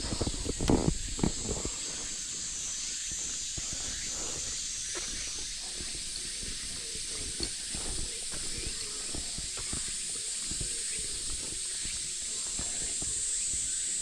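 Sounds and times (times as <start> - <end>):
cicada chorus: 0.0 - 14.0
footsteps on path: 0.0 - 14.0.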